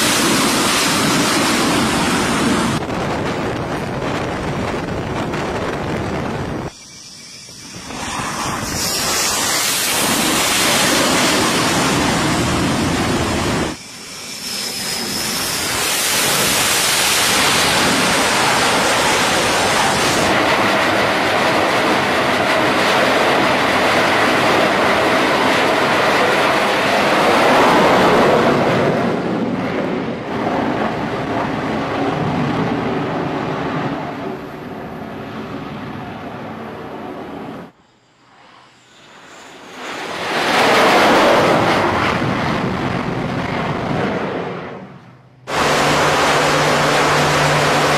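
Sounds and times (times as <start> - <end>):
fighter jet roar: 0.0 - 47.9.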